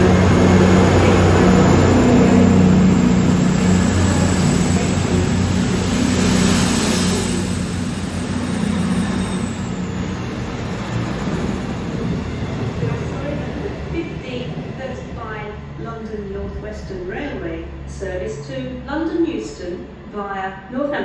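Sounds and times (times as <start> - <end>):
diesel train engine droning: 0.0 - 21.0.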